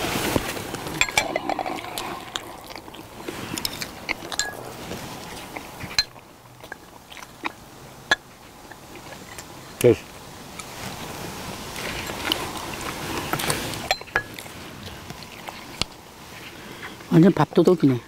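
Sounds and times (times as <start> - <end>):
people chewing: 0.0 - 17.9.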